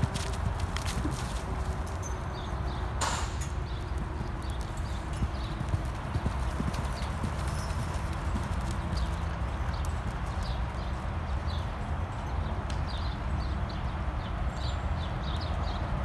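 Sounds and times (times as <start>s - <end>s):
horse hooves on sand: 0.0s - 16.0s.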